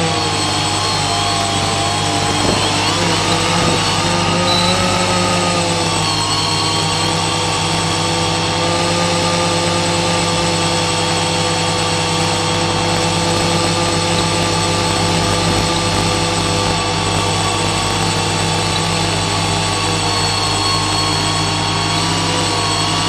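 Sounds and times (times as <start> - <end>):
drone motors humming: 0.0 - 23.0.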